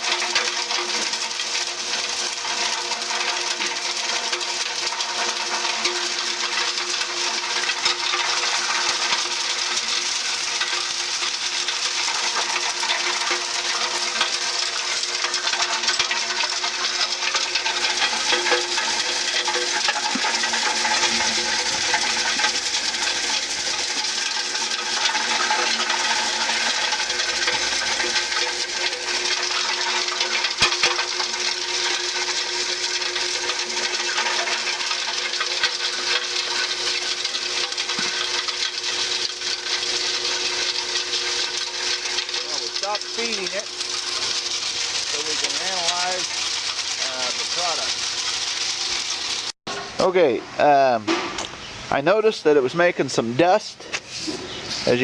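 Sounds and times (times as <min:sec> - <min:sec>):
machine mechanical hum: 0:00.0 - 0:52.5.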